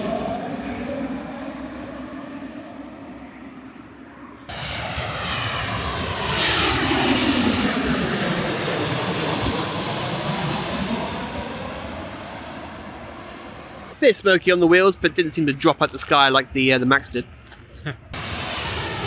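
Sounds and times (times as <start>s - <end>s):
airliner engines passing overhead: 0.0s - 19.0s.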